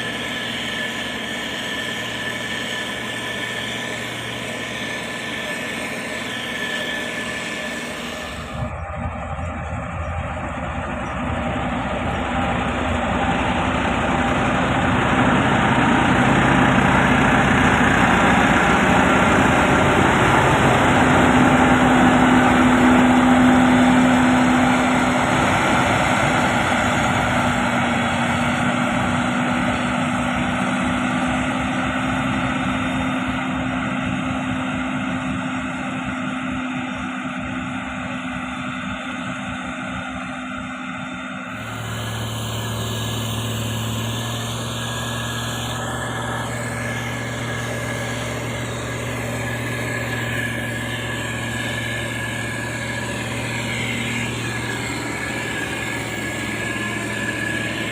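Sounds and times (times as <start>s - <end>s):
heavy machinery diesel engine: 0.0s - 57.9s.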